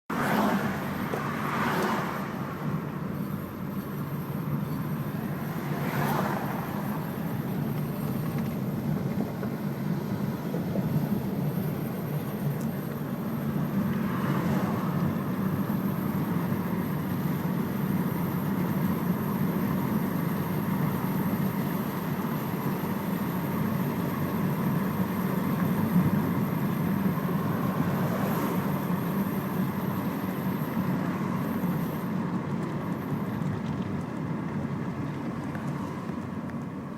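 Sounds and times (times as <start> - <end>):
car driving drone: 0.1 - 36.9.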